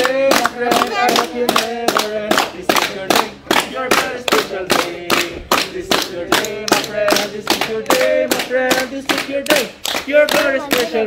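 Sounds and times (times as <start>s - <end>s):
group clapping in time: 0.0s - 11.0s
group singing a birthday song: 0.0s - 11.0s.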